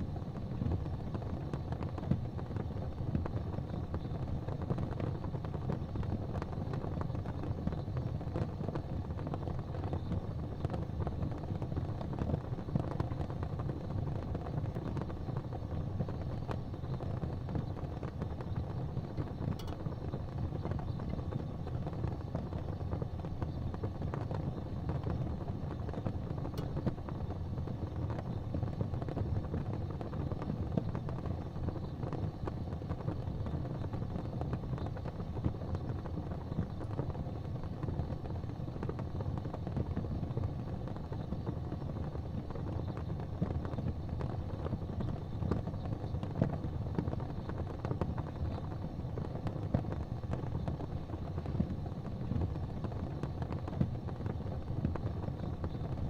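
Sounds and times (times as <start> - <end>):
faint fire crackles: 0.0 - 56.0
fireplace fire burning: 0.0 - 56.0.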